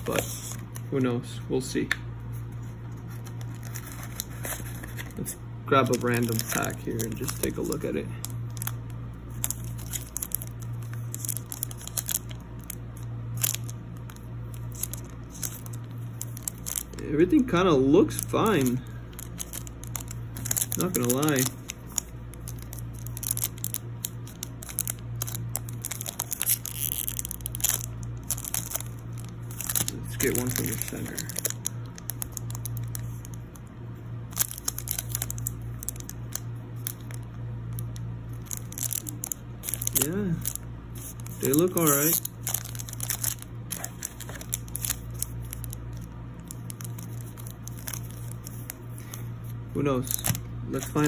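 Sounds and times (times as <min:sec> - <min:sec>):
steady low hum: 0:00.0 - 0:51.0
foil wrapper crinkling: 0:02.9 - 0:33.7, 0:34.3 - 0:51.0.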